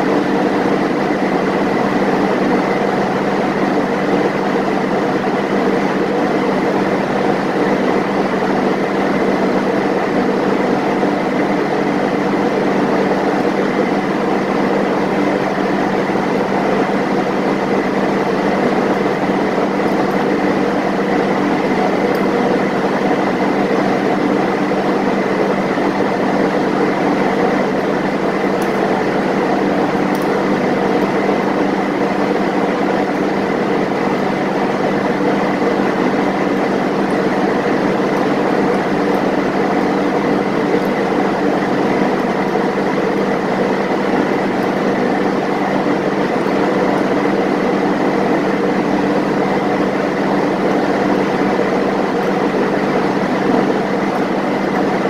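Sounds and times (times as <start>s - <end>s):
engine-room machinery drone: 0.0s - 55.0s.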